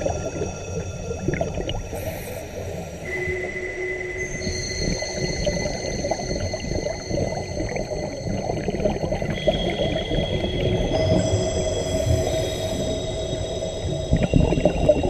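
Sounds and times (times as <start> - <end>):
underwater regulator bubbles gurgling: 0.0 - 3.6, 4.2 - 15.0
thin high whines: 1.9 - 15.0.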